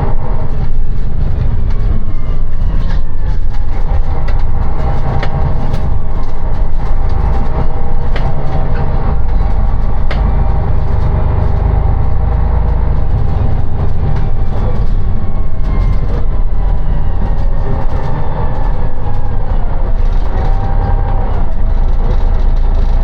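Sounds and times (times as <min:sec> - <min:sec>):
bus engine and road rumble: 0:00.0 - 0:23.0
bus fittings clicking and rattling: 0:00.0 - 0:23.0.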